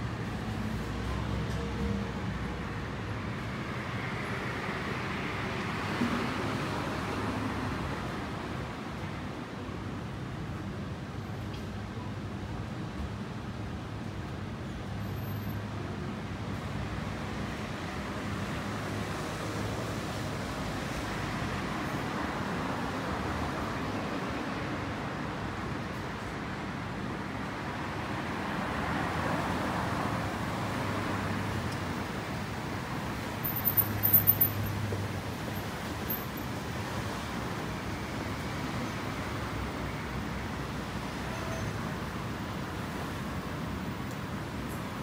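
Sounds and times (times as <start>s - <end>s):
passing road traffic: 0.0s - 45.0s.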